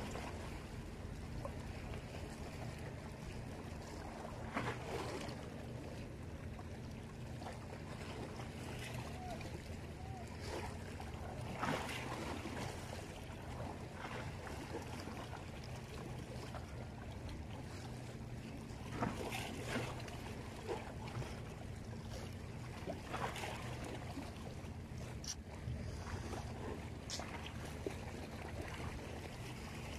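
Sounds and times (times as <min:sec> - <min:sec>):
low engine hum: 0:00.0 - 0:29.9
water lapping against boat hull: 0:00.0 - 0:29.9.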